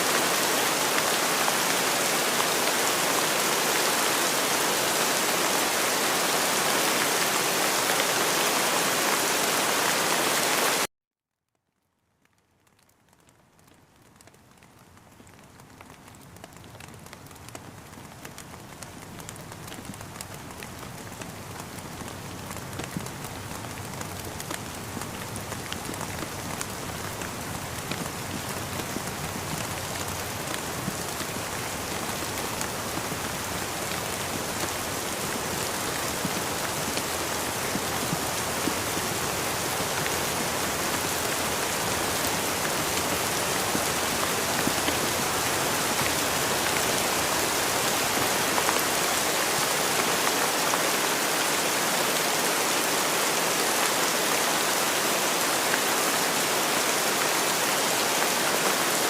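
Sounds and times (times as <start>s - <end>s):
raindrops pattering: 0.0s - 10.9s, 11.5s - 59.0s.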